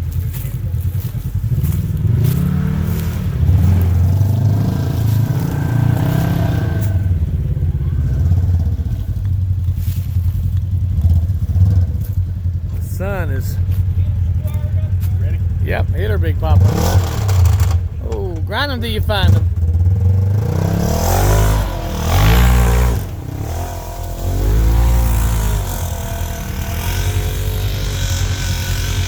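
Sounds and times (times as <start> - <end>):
engine revving: 0.0 - 29.0
engine running steadily: 0.0 - 29.0.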